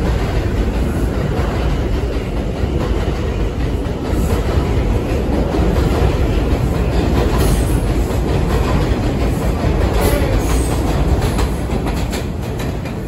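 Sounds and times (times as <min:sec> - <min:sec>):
subway train wheels on rails: 0:00.0 - 0:13.0.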